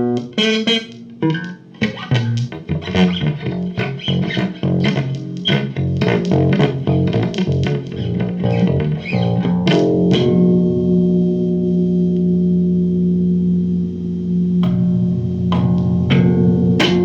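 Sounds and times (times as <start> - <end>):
guitar playing: 0.0 - 17.0.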